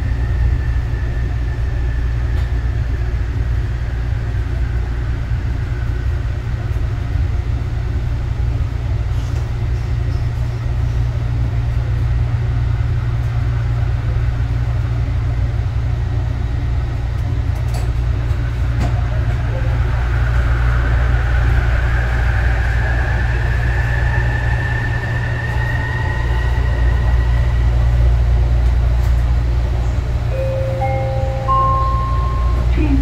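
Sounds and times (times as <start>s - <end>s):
train cabin rumble: 0.0s - 33.0s.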